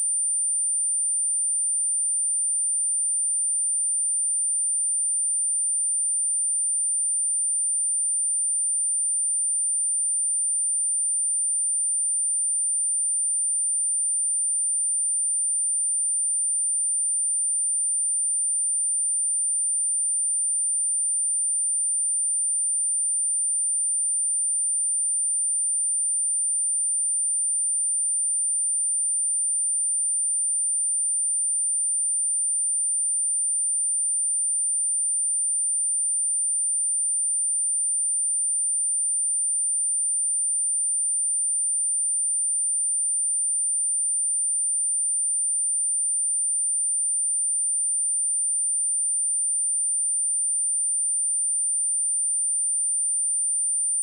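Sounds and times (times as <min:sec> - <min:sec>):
high-pitched sine-wave test tone: 0:00.0 - 0:54.0.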